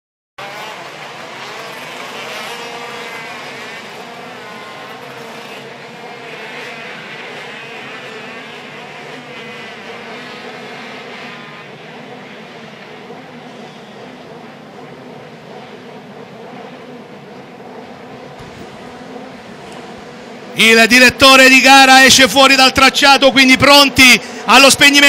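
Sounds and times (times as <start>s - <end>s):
kart engines revving: 0.4s - 25.0s.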